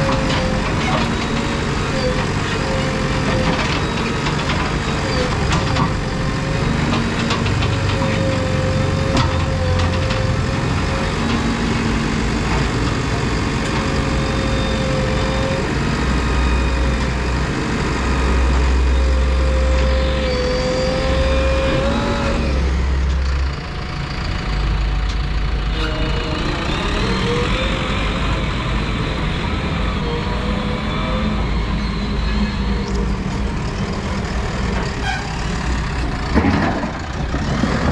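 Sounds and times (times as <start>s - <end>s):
diesel engine rumbling: 0.0s - 37.9s.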